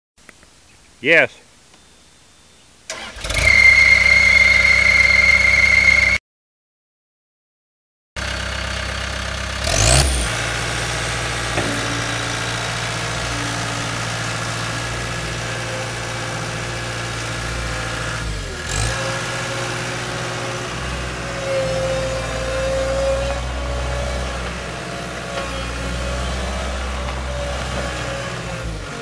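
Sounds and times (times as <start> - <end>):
diesel engine running: 2.9 - 6.2, 8.2 - 29.0.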